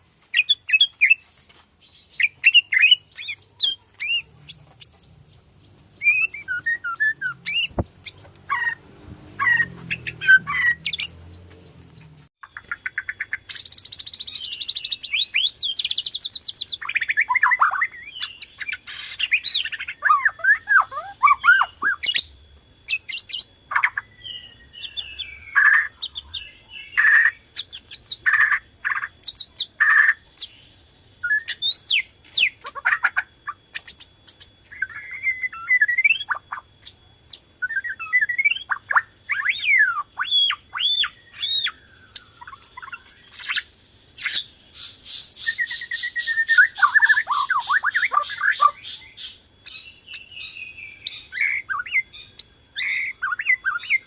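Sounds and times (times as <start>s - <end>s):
bird singing whistles: 0.0s - 54.0s.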